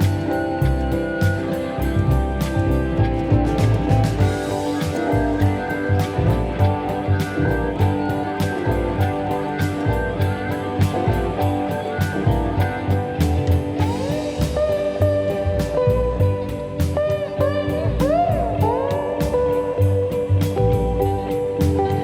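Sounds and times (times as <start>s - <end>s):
guitar-led band music: 0.0s - 22.0s
sliding guitar notes: 0.0s - 22.0s
steady drum beat: 0.0s - 22.0s.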